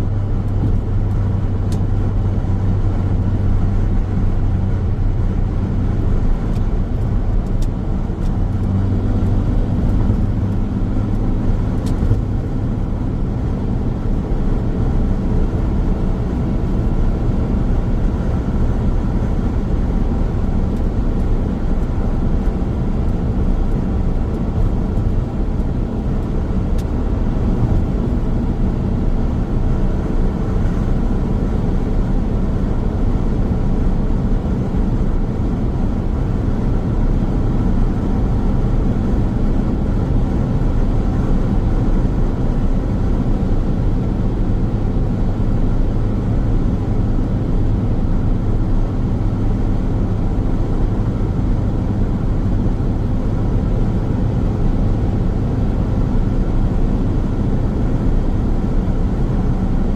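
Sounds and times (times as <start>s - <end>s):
car engine hum: 0.0s - 59.9s
road and tyre noise: 0.0s - 59.9s.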